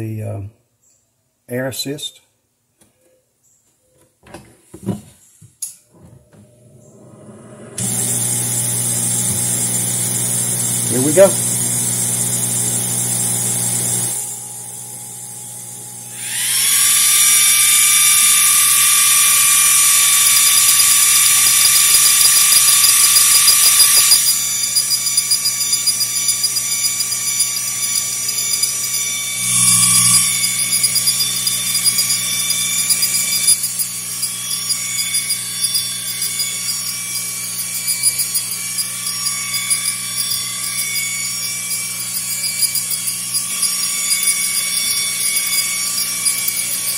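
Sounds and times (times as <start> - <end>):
motor whine: 6.4 - 46.9
stepper motors buzzing: 6.8 - 46.9.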